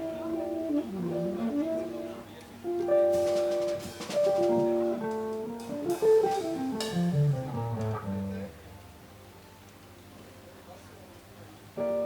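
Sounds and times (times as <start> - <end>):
jazz guitar playing: 0.0 - 9.8, 11.8 - 12.0.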